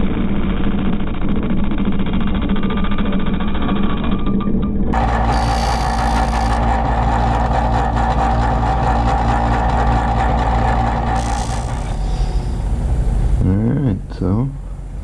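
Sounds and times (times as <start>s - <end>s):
chain grinder whining: 0.5s - 13.0s.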